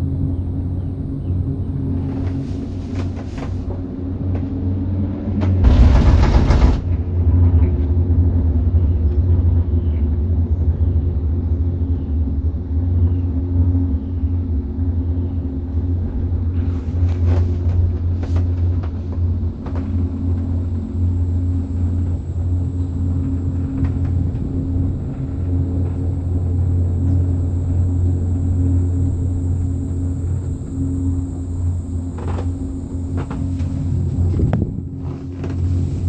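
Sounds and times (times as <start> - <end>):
gondola cabin rumble and hum: 0.0 - 36.0.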